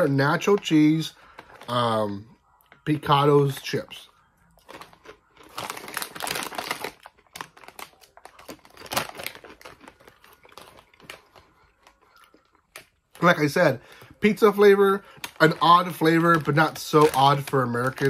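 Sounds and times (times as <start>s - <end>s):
crunching potato crisps: 0.0s - 18.0s.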